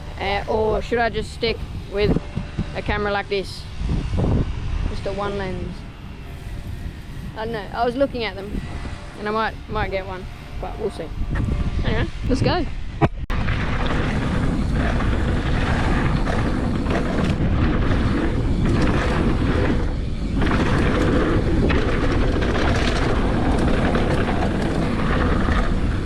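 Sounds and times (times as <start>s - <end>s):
bike tyre and trail noise: 0.0s - 26.0s
wind rushing over microphone: 0.0s - 26.0s.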